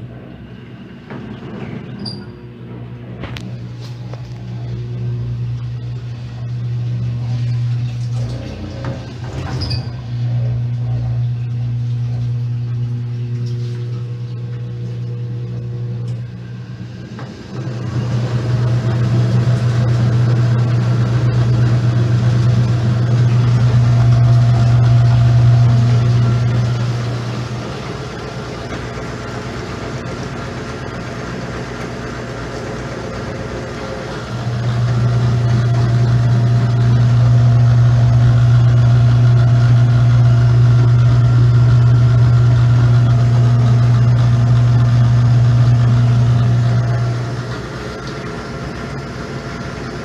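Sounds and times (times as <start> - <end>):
washing machine motor hum: 0.0 - 50.0.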